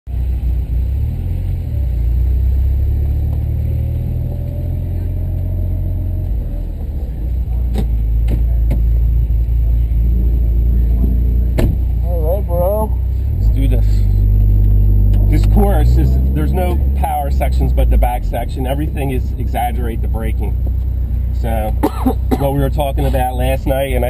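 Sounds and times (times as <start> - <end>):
car engine low rumble: 0.1 - 24.0.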